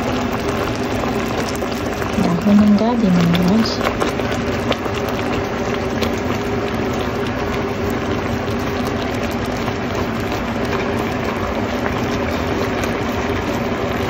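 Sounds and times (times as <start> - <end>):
pot bubbling at a simmer: 0.0 - 14.0
spatula stirring: 0.2 - 14.0.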